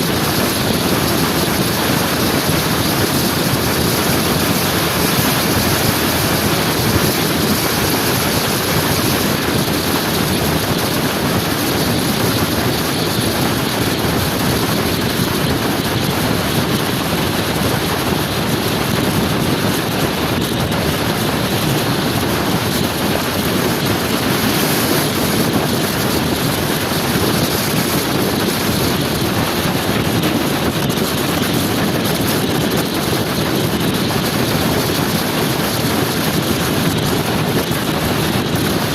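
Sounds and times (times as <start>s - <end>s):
motor scooter engine and road noise: 0.0s - 38.9s
wind on microphone: 0.0s - 38.9s.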